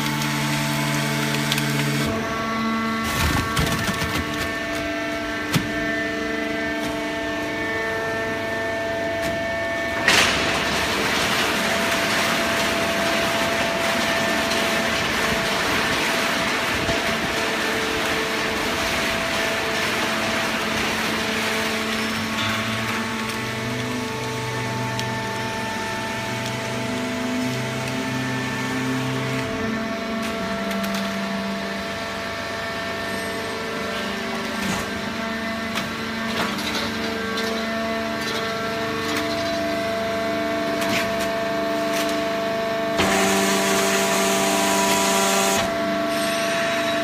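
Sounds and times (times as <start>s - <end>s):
hydraulic baler hum: 0.0s - 47.0s
rough machine noise: 0.0s - 47.0s.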